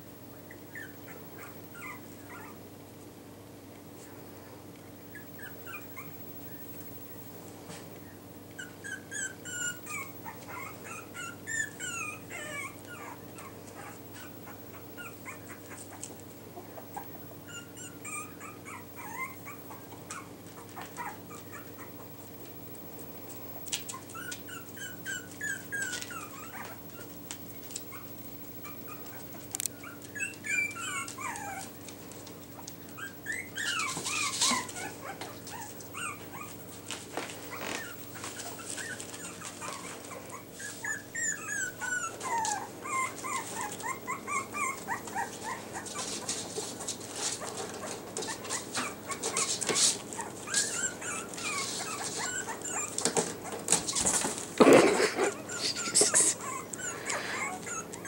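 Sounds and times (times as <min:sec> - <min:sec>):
faint steady hum: 0:00.0 - 0:58.0
puppies whimpering and yipping: 0:00.2 - 0:02.6, 0:04.0 - 0:07.3, 0:08.5 - 0:58.0.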